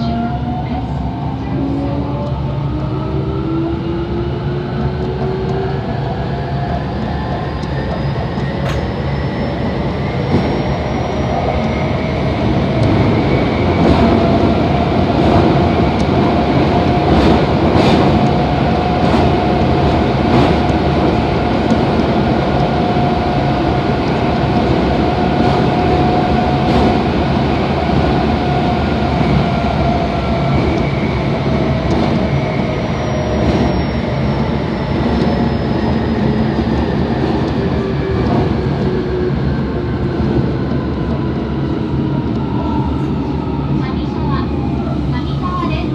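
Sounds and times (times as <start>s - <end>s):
train rumble: 0.0s - 45.9s
rail-joint clicks: 4.6s - 42.5s.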